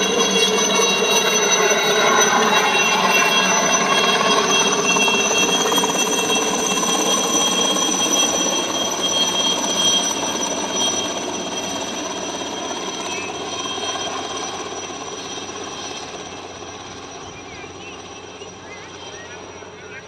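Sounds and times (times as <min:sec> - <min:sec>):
helicopter turbine and rotor: 0:00.0 - 0:20.0.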